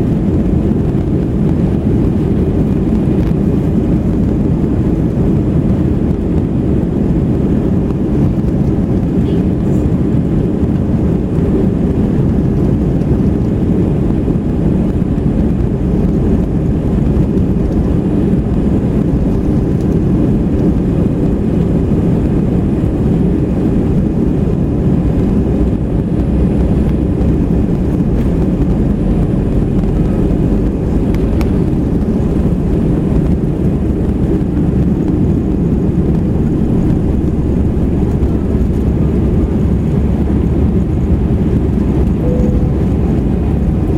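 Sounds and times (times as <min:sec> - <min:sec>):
airliner engines rumbling in cabin: 0:00.0 - 0:43.9.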